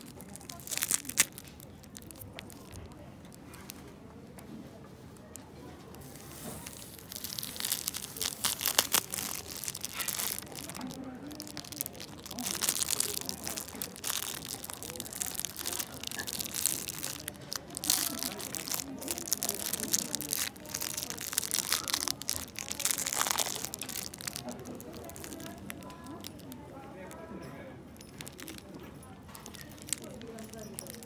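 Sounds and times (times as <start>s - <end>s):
plastic wrap crinkling: 0.0s - 4.0s, 5.2s - 31.0s.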